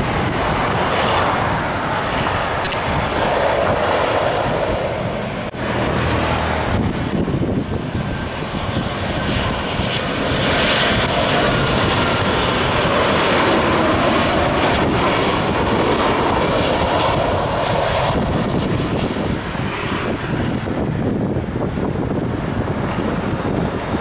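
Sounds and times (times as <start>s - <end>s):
faint high jet whine: 0.0s - 20.6s
jet engine rushing noise: 0.0s - 24.0s.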